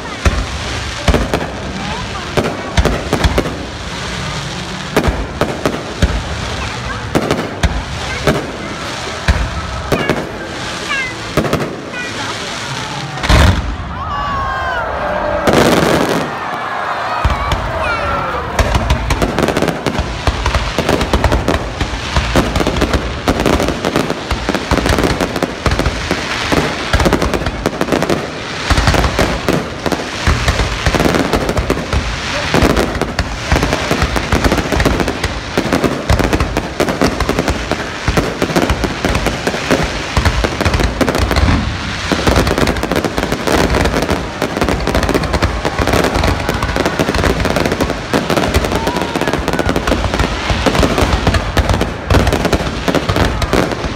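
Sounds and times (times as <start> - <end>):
fireworks launching and bursting: 0.0 - 53.9.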